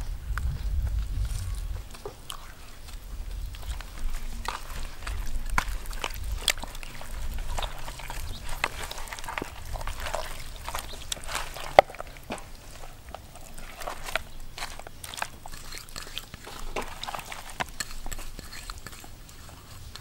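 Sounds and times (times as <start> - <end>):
hands kneading wet marinade: 1.6 - 20.0.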